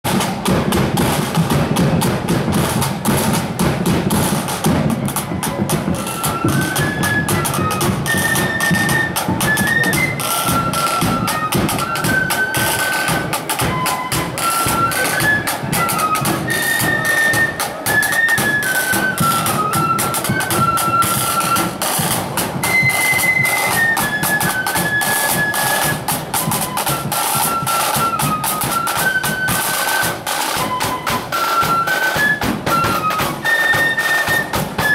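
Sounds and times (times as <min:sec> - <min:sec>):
flutes playing a tune: 0:00.1 - 0:34.9
rapid side drum strokes: 0:00.1 - 0:34.9.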